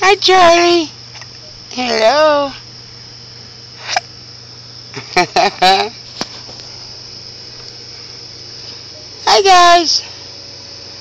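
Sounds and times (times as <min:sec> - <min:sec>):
crickets chirring: 0:00.0 - 0:11.0
low steady hum: 0:00.0 - 0:11.0.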